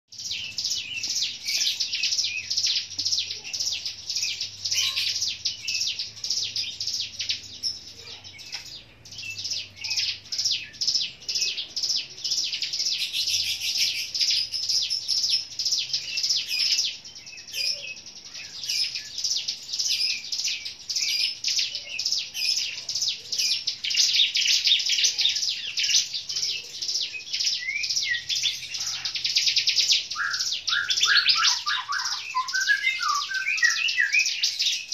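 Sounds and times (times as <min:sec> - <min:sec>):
songbirds chirping rapidly: 0:00.1 - 0:34.9.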